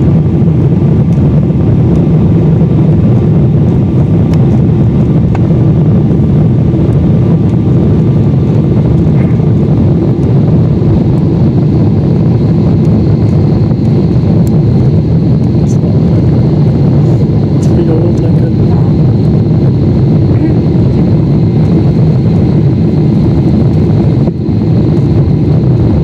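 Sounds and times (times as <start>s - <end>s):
deep aircraft cabin roar: 0.0s - 26.0s
faint high whine: 0.0s - 26.0s.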